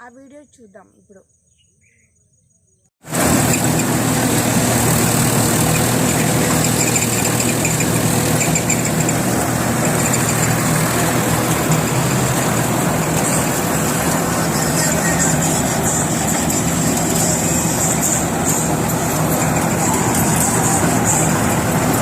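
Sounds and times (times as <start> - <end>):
combine harvester engine drone: 3.0 - 22.0
high machinery whine: 3.0 - 22.0.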